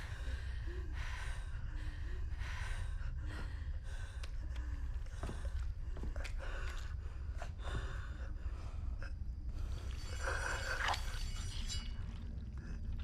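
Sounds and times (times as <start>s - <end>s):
person breathing hard: 0.0s - 10.9s.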